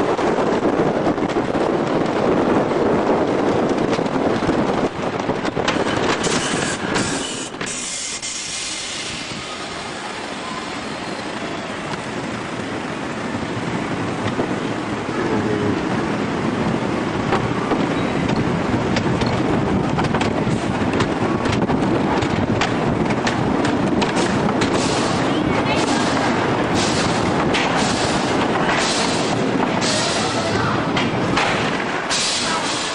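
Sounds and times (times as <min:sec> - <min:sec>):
roller coaster rumble and rush: 0:00.0 - 0:32.9
roller coaster track clacks: 0:00.0 - 0:32.9.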